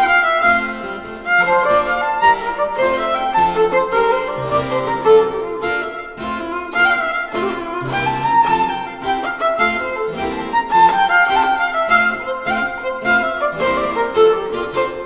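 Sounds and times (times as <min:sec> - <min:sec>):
bowed violin melody: 0:00.0 - 0:15.0
double bass line: 0:00.0 - 0:15.0
plucked harpsichord chords: 0:00.0 - 0:15.0.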